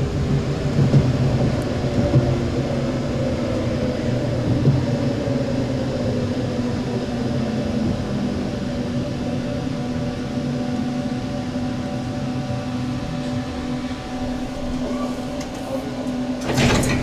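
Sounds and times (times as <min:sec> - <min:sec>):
tram electric hum: 0:00.0 - 0:17.0
tram rolling noise: 0:00.0 - 0:17.0.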